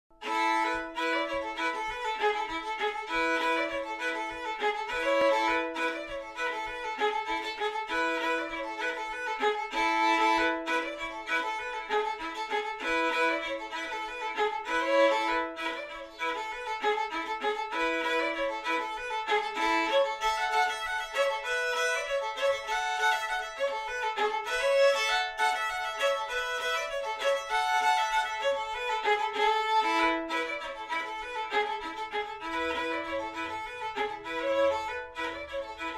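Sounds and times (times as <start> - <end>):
solo fiddle folk tune: 0.1 - 35.9.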